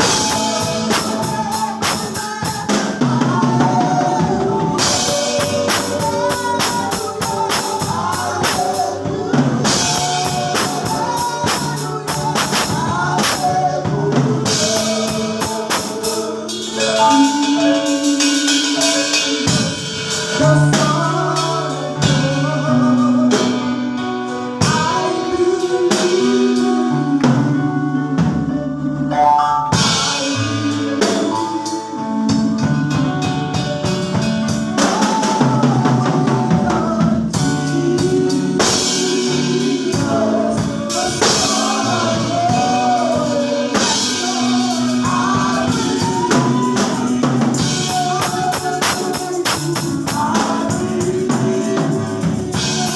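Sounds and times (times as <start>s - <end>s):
bass: 0.0s - 52.9s
drum kit: 0.0s - 52.9s
gospel singing: 0.0s - 52.9s.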